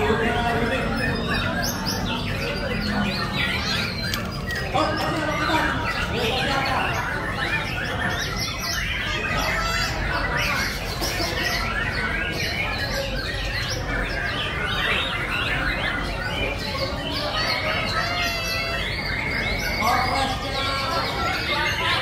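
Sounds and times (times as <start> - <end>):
songbirds chorus: 0.0 - 22.0.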